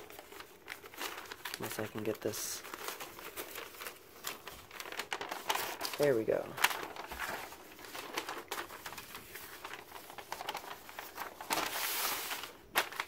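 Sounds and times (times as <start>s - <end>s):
paper crinkling and rustling: 0.0s - 13.0s
sharp paper crackle: 0.0s - 13.0s.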